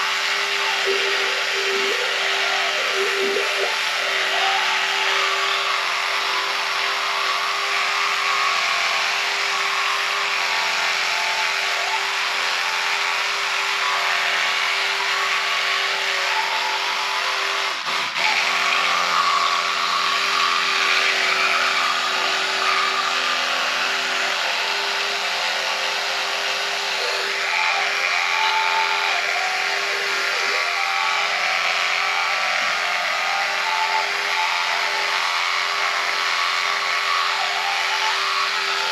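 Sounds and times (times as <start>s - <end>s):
electric toothbrush humming: 0.0s - 38.9s.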